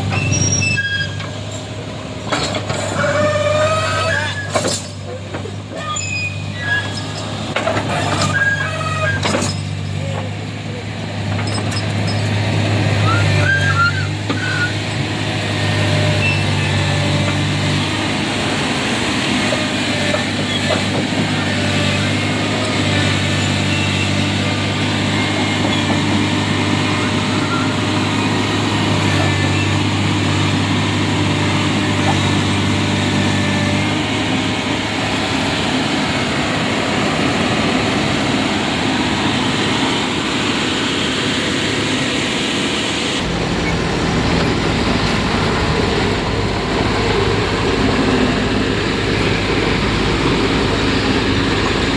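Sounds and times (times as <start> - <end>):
heavy vehicle engines running: 0.0 - 51.9
road traffic noise: 0.0 - 51.9.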